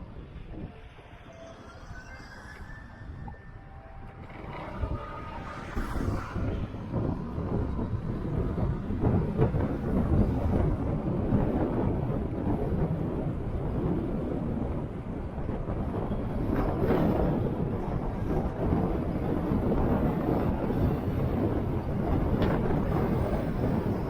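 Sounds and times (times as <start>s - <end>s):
road noise: 0.0s - 24.0s
wind buffeting microphone: 0.0s - 24.0s.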